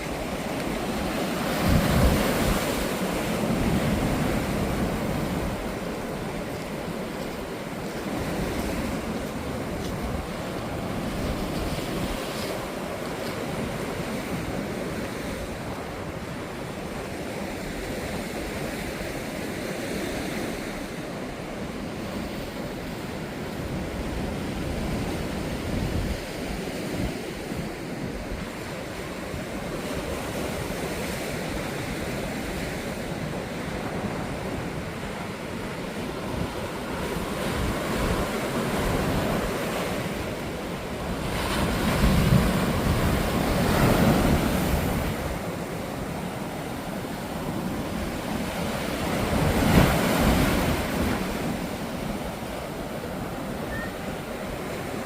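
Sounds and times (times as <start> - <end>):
wind buffeting microphone: 0.0 - 18.2, 22.1 - 55.0
sea surf breaking on beach: 0.0 - 55.0.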